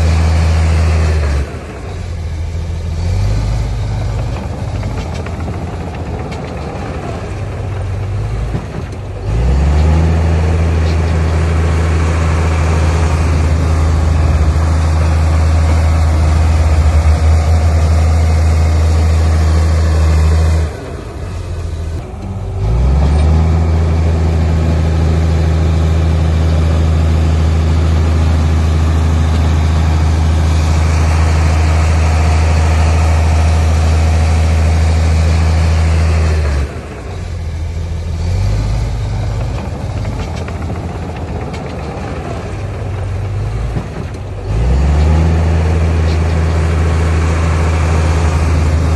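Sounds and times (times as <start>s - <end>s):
heavy diesel engine revving: 0.0s - 48.9s.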